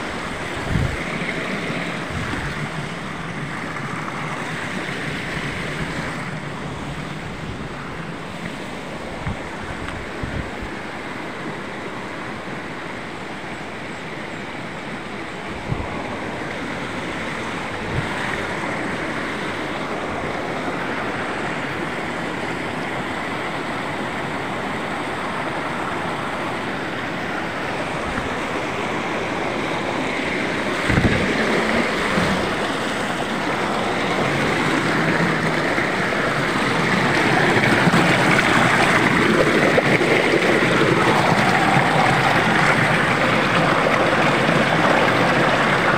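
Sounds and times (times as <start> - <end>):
water rushing over boulders: 0.0 - 45.9.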